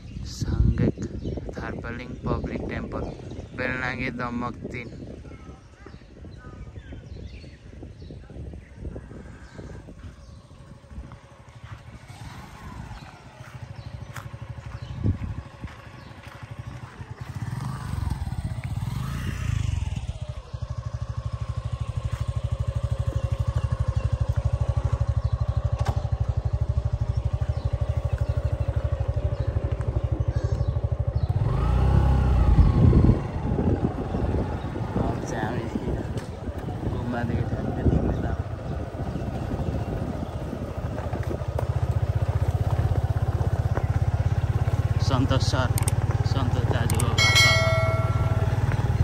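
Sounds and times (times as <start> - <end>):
motorcycle engine throbbing: 0.0 - 49.0.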